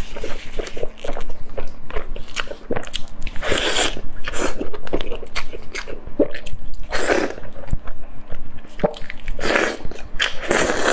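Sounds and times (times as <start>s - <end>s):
wet crunchy chewing: 0.0s - 10.9s.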